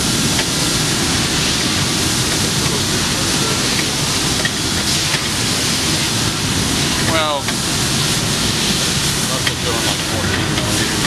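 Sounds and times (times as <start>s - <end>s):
machinery rushing noise: 0.0s - 11.0s.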